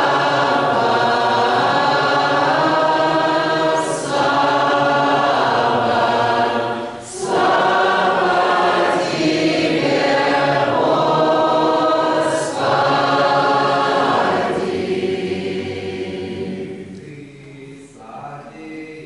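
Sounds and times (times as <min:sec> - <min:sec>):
choir singing a hymn unaccompanied: 0:00.0 - 0:19.0.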